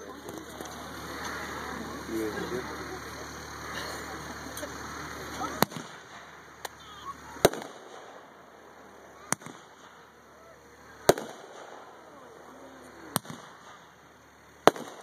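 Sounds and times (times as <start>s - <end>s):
firework bangs: 0.1s - 15.0s.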